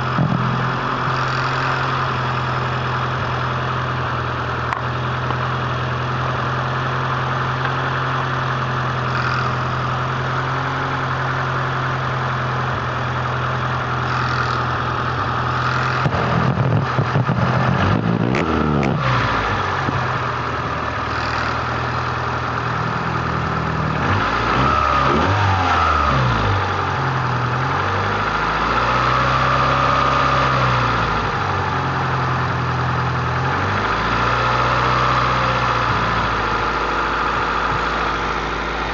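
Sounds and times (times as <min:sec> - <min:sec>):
car engine idling and revving: 0:00.0 - 0:38.9
engine whine: 0:00.0 - 0:38.9.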